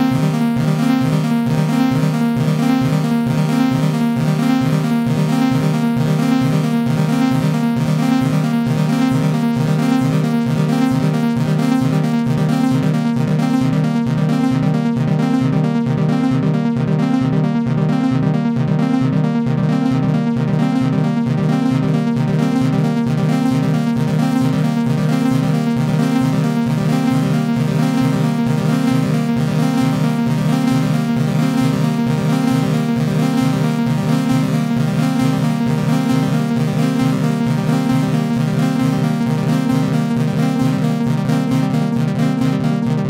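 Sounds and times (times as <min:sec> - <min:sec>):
electronic synthesizer music: 0:00.0 - 0:43.0.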